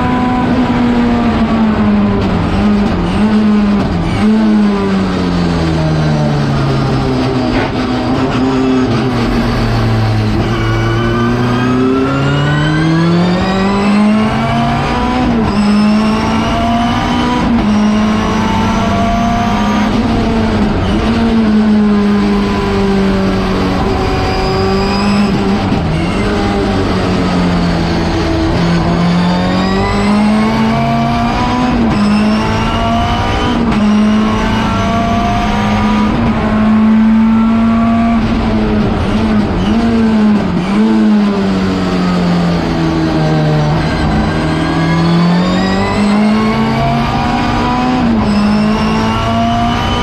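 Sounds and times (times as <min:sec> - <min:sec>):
race car engine revving: 0:00.0 - 0:50.0.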